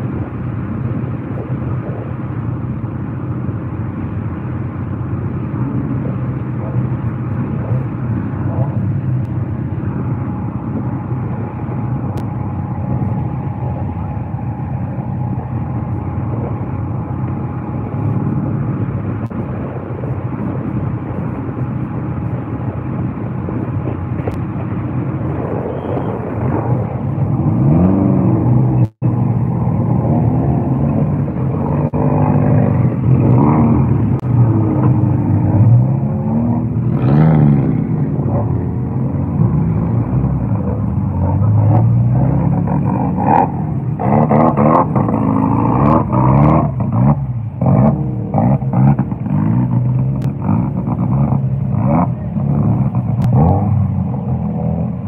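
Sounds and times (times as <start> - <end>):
car engines idling: 0.0 - 55.0
car engines revving: 0.0 - 55.0.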